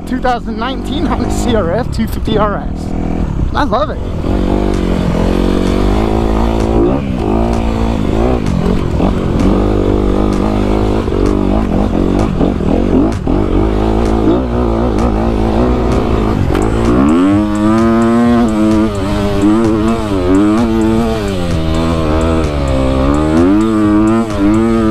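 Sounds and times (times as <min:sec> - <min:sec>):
dirt bike engines revving: 0:00.0 - 0:24.9.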